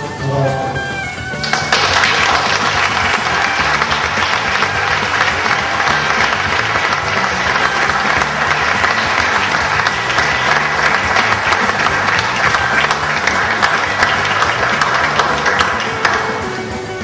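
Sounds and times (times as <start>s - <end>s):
crowd applauding: 1.4s - 17.0s.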